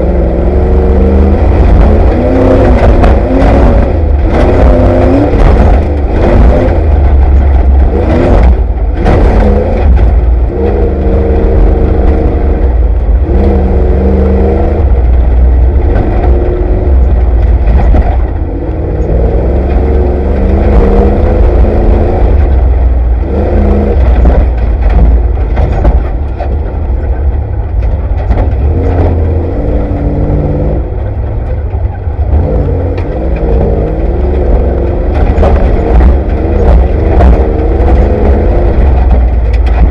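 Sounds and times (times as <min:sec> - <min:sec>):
knocks and rattles: 0:00.0 - 0:39.9
race vehicle engine revving: 0:00.0 - 0:39.9.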